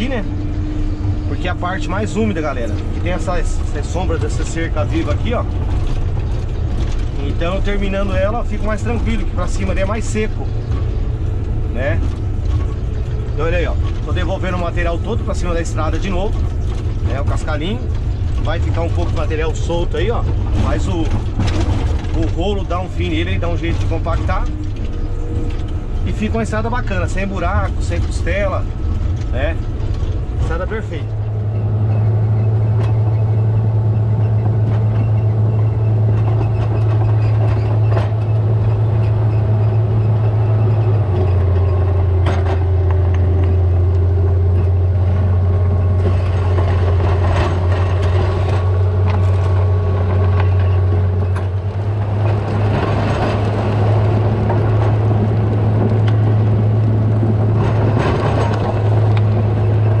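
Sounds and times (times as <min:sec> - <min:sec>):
diesel engine running under load: 0:00.0 - 1:00.0
knocks and rattles: 0:00.0 - 1:00.0.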